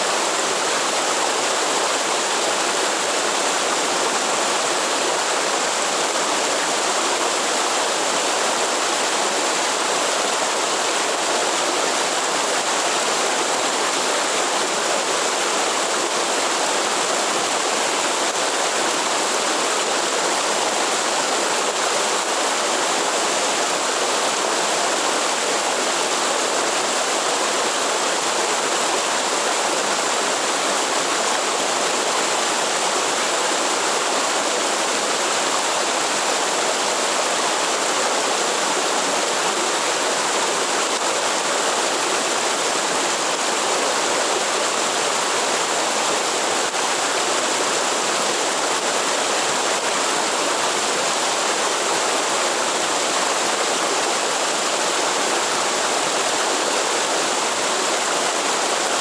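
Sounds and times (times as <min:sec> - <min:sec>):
waterfall and rushing stream: 0:00.0 - 0:59.0.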